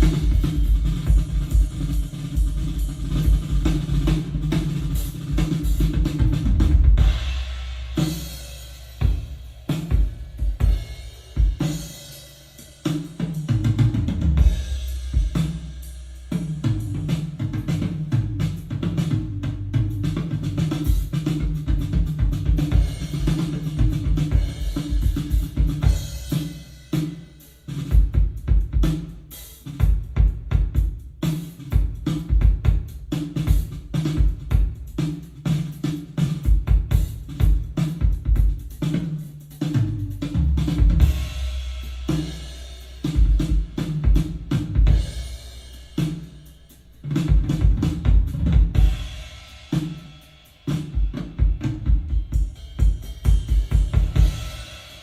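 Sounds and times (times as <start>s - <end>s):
drum-heavy music: 0.0s - 55.0s.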